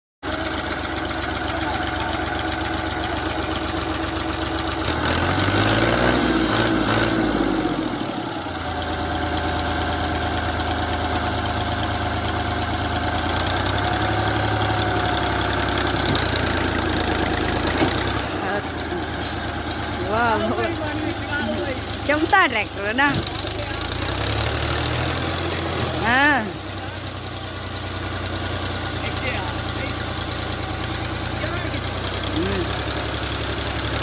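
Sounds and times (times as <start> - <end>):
diesel tractor engine idling and revving: 0.2 - 34.0.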